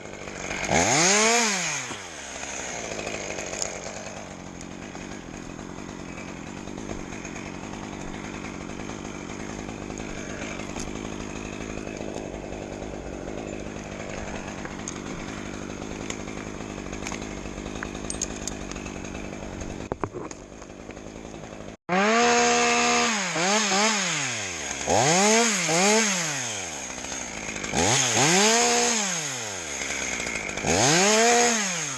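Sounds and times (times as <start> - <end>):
power tool engine running: 0.0 - 31.9.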